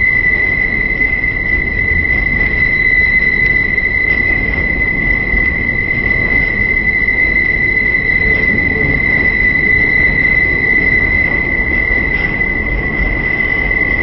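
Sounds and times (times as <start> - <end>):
high-pitched whine: 0.0 - 14.0
train running rumble: 0.0 - 14.0.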